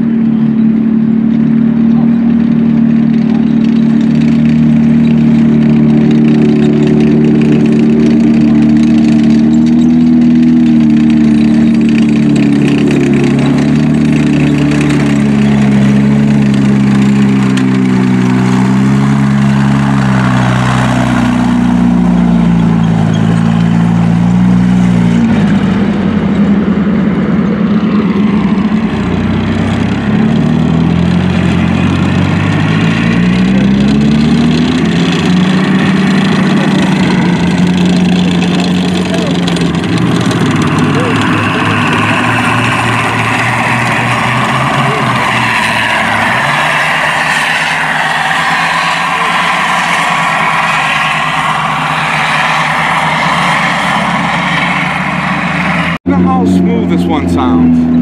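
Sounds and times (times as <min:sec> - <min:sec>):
tank engine running: 0:00.0 - 0:58.0
tank tracks rattling: 0:00.2 - 0:25.6, 0:29.1 - 0:55.6.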